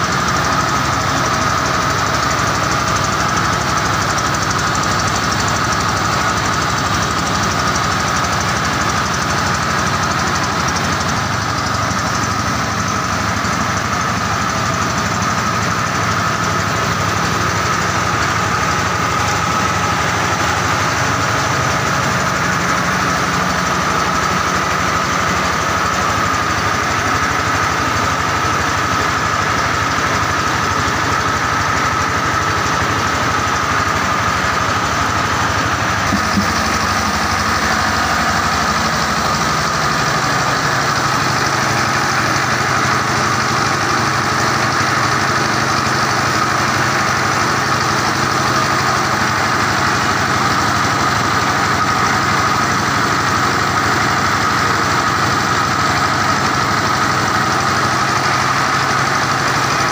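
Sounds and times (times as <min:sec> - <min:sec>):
rice huller engine running: 0:00.0 - 0:59.9.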